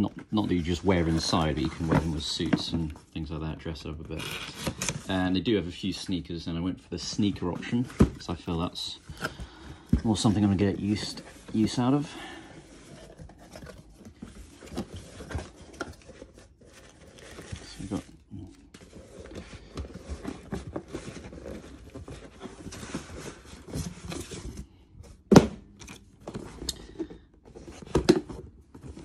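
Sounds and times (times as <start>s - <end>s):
cardboard rustling and scraping: 0.0s - 3.2s, 3.8s - 29.0s.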